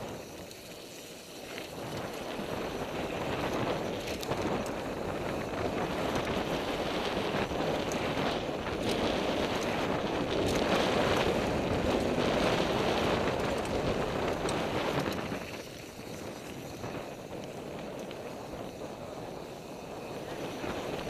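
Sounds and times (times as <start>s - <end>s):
bike clicks and rattles: 0.0s - 21.0s
bike tyres rumbling on dirt: 0.0s - 21.0s
wind buffeting microphone: 0.0s - 21.0s.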